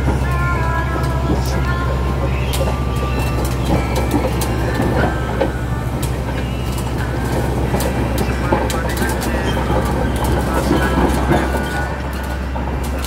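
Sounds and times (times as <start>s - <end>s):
bulldozer diesel engine droning: 0.0s - 13.0s
crawler tracks clanking: 0.0s - 13.0s.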